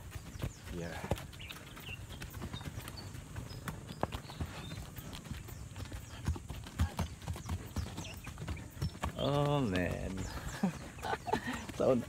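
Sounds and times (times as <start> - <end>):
horse hooves clopping on dirt: 0.0 - 12.0.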